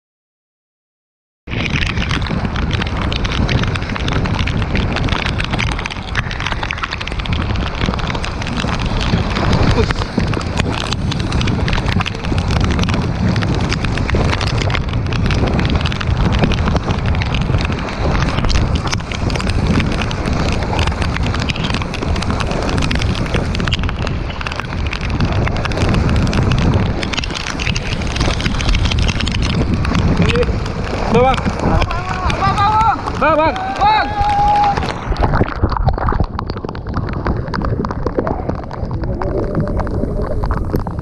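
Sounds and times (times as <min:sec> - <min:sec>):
heavy wind noise: 0:01.5 - 0:41.0
rain spattering: 0:01.5 - 0:41.0
water splashing along hull: 0:01.5 - 0:41.0.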